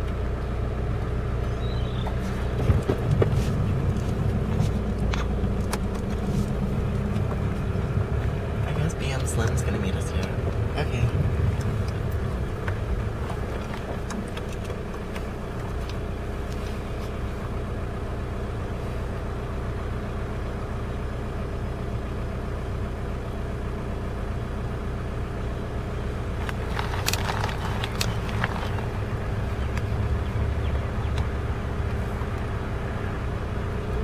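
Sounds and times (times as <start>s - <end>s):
car engine hum from cabin: 0.0s - 34.0s.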